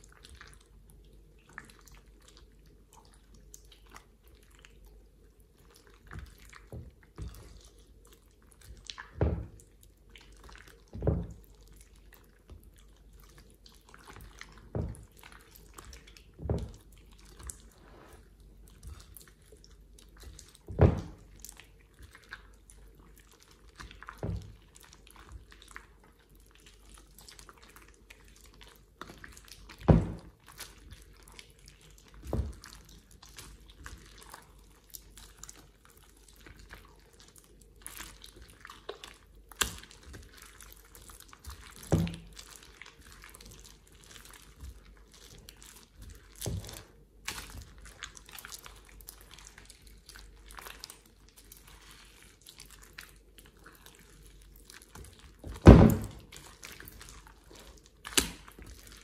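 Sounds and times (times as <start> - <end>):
slime squelching and crackling: 0.0 - 59.0
wet slime plops: 5.5 - 59.0.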